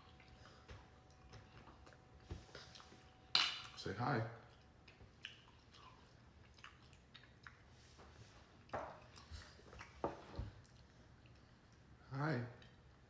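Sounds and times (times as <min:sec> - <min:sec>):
quiet chewing: 0:00.0 - 0:03.8, 0:04.4 - 0:12.0.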